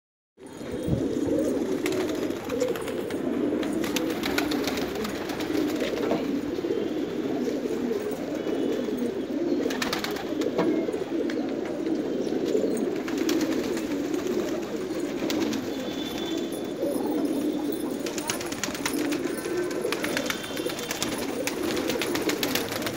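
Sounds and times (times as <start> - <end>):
pigeons cooing: 0.4 - 22.9.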